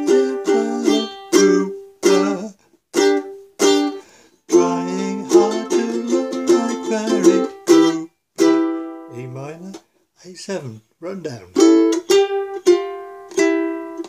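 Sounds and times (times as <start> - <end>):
ukulele strumming: 0.0 - 9.8, 11.5 - 14.0.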